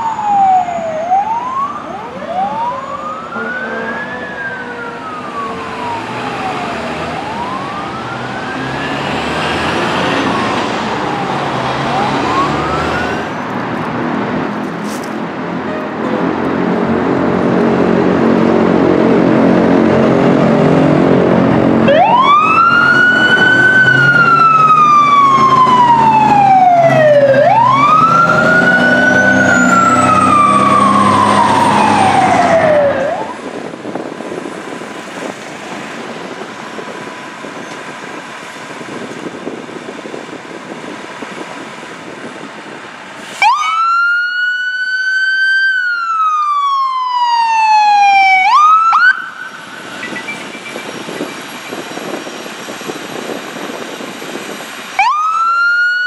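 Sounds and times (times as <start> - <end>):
fire truck siren wailing: 0.0 - 13.9, 15.7 - 42.7, 43.3 - 56.0.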